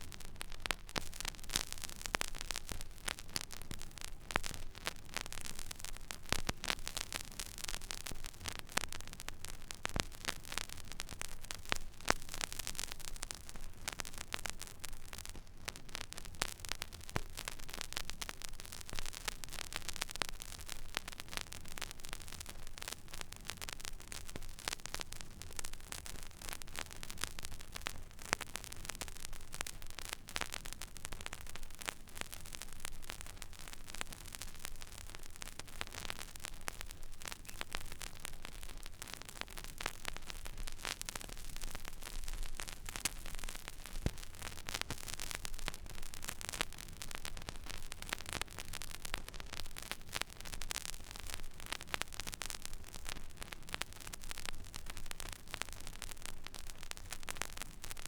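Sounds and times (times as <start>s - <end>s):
vinyl surface hiss: 0.0s - 52.7s
vinyl crackles and pops: 0.0s - 58.0s.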